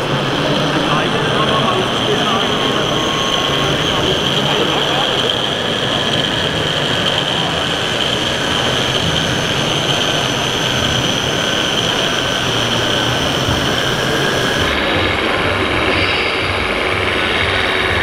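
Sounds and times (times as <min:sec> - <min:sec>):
din of busy hall: 0:00.0 - 0:18.0
model snow-groomer running: 0:00.0 - 0:18.0.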